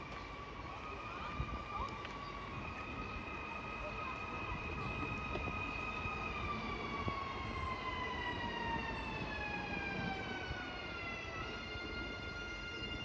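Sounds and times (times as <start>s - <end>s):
low rumble of train: 0.0s - 13.0s.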